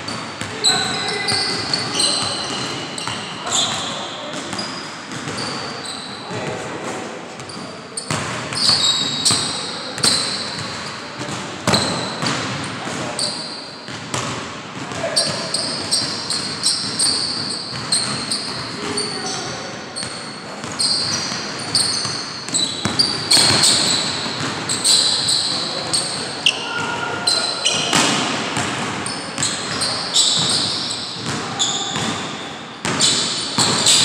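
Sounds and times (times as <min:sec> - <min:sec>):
sneaker squeaks: 0:00.0 - 0:06.7, 0:07.4 - 0:34.0.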